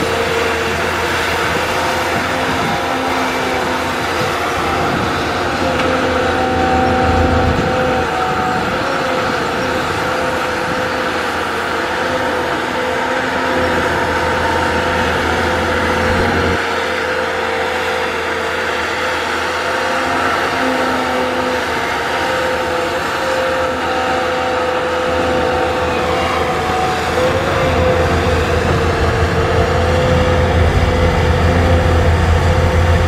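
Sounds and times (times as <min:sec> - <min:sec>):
excavator diesel engine drone: 0:00.0 - 0:33.0
steady whine: 0:00.0 - 0:33.0.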